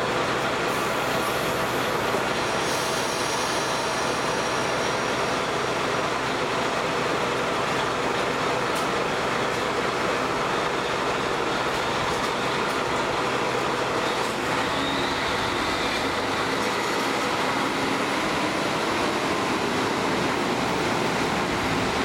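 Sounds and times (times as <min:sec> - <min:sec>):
diesel railcar engine running: 0:00.0 - 0:22.0
train wheels rolling on rails: 0:00.0 - 0:22.0.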